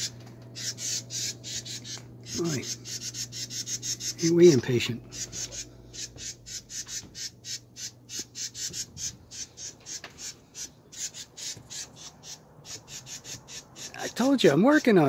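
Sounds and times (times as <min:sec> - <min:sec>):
bird scolding calls: 0:00.0 - 0:15.0.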